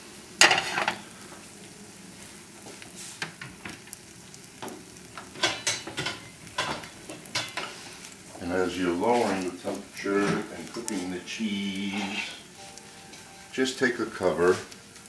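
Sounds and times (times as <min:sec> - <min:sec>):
omelet sizzling in a pan: 0:00.0 - 0:15.0
oil crackling and popping: 0:00.3 - 0:15.0.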